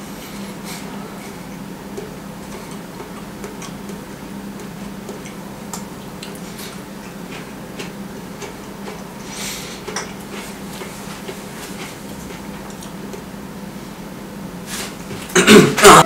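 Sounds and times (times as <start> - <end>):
toaster low hum: 0.0 - 16.0.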